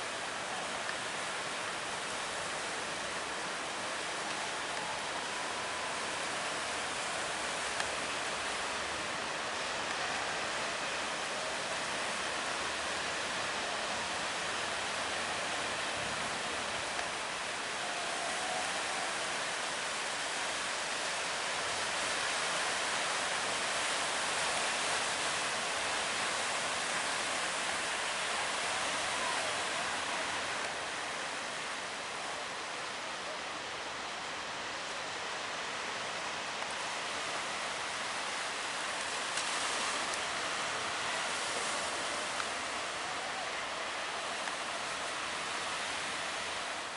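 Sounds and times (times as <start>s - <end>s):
sea water rushing: 0.0s - 46.9s
wind: 0.0s - 46.9s.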